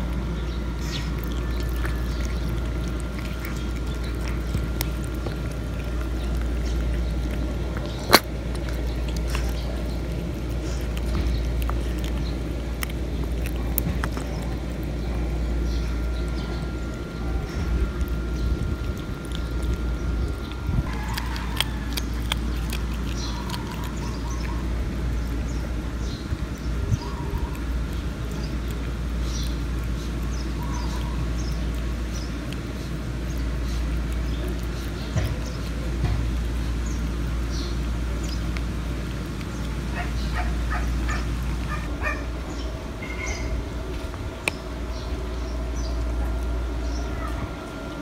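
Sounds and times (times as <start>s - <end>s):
cats crunching fish bones: 0.0s - 48.0s
steady low rumble: 0.0s - 48.0s.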